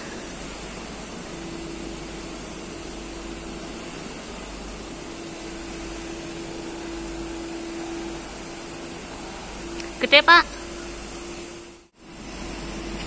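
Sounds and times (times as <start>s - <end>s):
faint held tone: 0.0s - 11.9s
mechanical hum and hiss: 0.0s - 13.0s.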